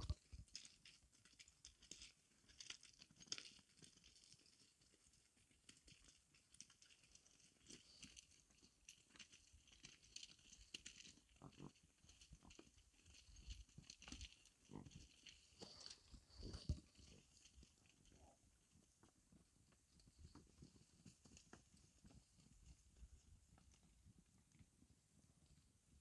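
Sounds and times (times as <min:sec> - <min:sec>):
horse hooves on stones: 0:00.0 - 0:24.7.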